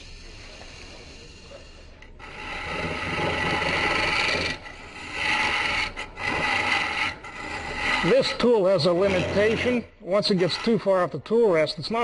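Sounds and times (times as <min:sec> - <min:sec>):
lathe tool scraping wood: 0:02.2 - 0:12.0.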